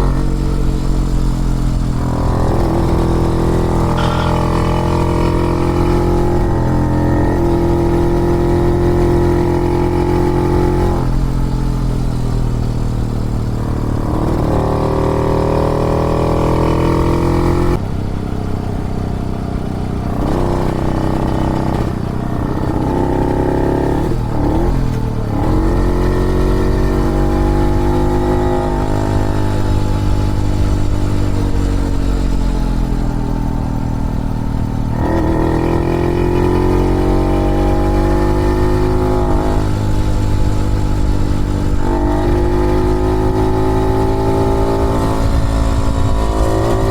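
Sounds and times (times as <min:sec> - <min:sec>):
motorcycle engine revving: 0:00.0 - 0:46.9
wind and road noise: 0:00.0 - 0:46.9.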